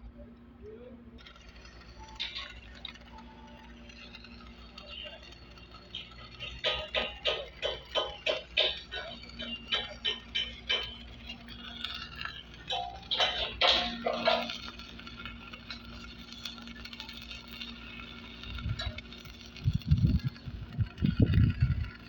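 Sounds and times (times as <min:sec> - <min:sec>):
steady hiss: 0:00.2 - 0:22.0.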